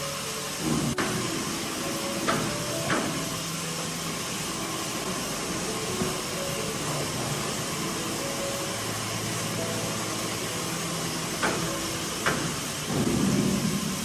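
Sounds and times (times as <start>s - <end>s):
hissing machine noise: 0.0s - 14.0s.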